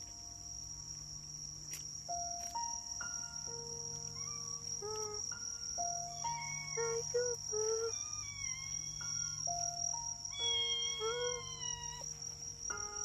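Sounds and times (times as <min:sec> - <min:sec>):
high-pitched insect trill: 0:00.0 - 0:13.0
soft gliding melodic notes: 0:02.1 - 0:13.0.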